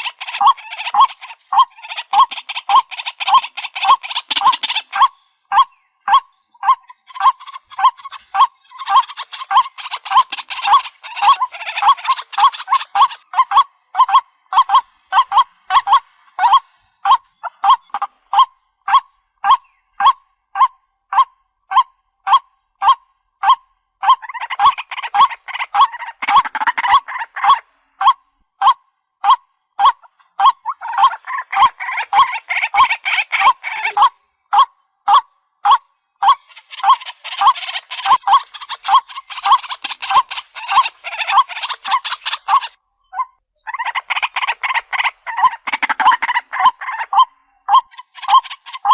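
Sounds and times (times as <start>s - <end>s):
waterhen honking calls: 0.0s - 42.8s, 43.7s - 48.9s
raspy bird calling: 0.0s - 48.9s.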